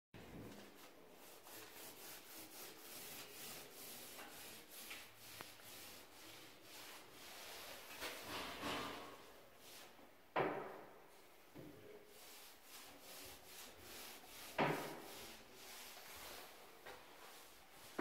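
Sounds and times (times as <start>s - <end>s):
faint rubbing and scuffing: 0.2s - 10.1s, 11.1s - 18.0s.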